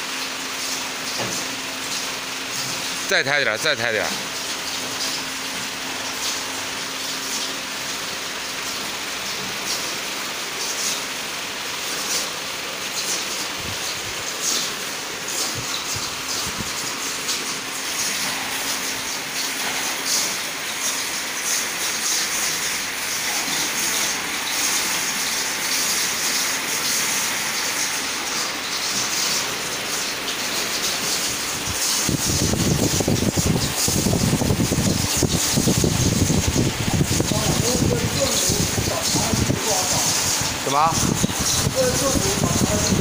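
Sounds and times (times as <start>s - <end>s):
furnace rushing hiss: 0.0s - 43.0s.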